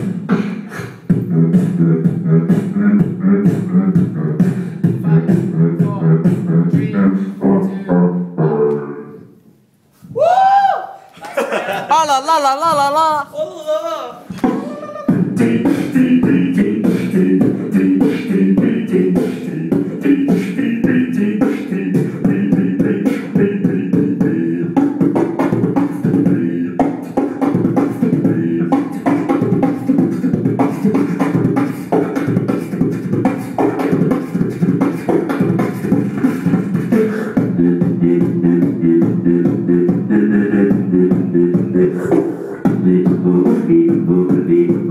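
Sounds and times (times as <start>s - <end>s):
beatboxing into microphone: 0.0s - 9.4s, 11.8s - 44.9s.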